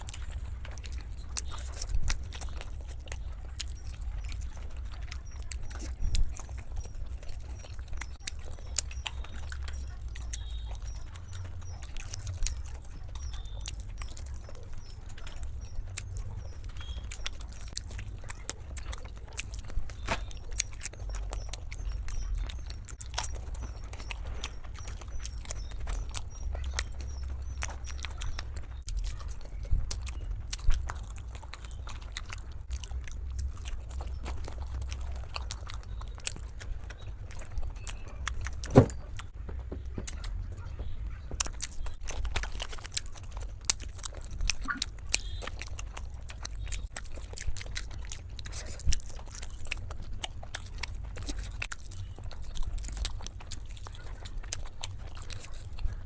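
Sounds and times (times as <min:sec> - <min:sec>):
low steady hum: 0:00.0 - 0:56.0
wet chewing and mouth smacks: 0:00.0 - 0:56.0.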